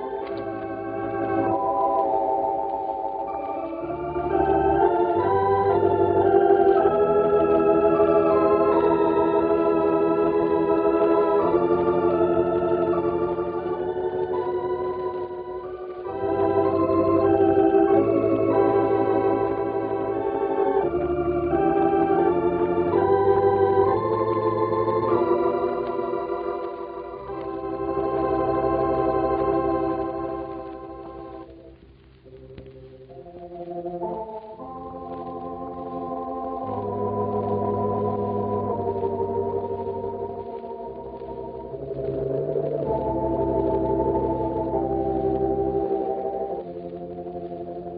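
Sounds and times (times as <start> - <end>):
organ playing chords and melody: 0.0 - 47.9.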